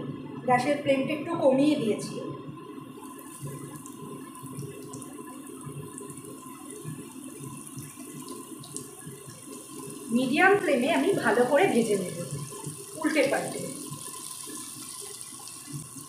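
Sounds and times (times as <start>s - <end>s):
fish sizzling in hot oil: 2.9s - 16.0s.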